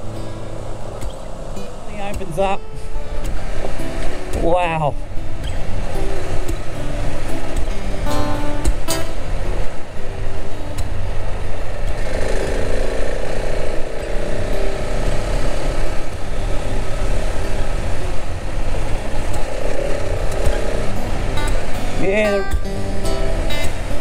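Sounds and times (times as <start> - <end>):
motorcycle engine running: 0.0 - 24.0
steady drone: 0.0 - 24.0
wind rumble on microphone: 0.0 - 24.0.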